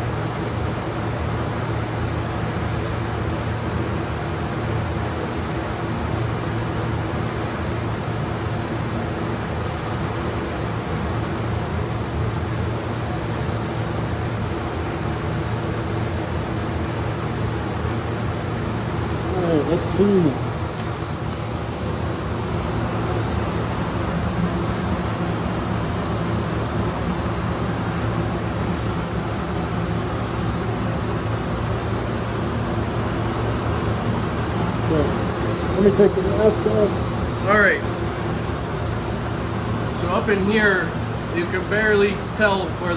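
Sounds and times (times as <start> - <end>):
low constant hum: 0.0 - 42.9
ventilation air rushing: 0.0 - 42.9.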